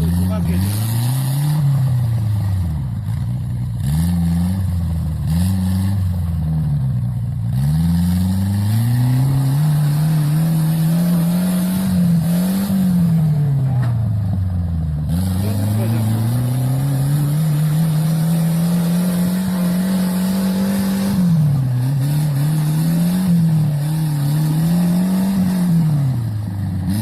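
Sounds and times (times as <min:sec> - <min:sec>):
turbocharged engine revving: 0:00.0 - 0:27.0.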